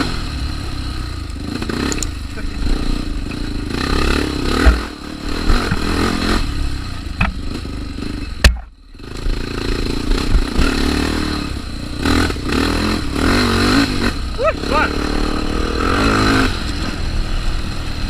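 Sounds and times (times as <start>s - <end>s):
motorcycle engine revving: 0.0s - 18.0s
motorcycle rattling: 0.0s - 18.0s.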